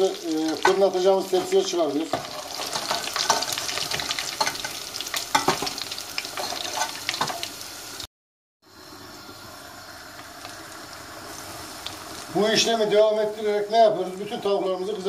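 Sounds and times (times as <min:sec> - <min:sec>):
food sizzling in hot oil: 0:00.0 - 0:08.1, 0:08.7 - 0:15.0.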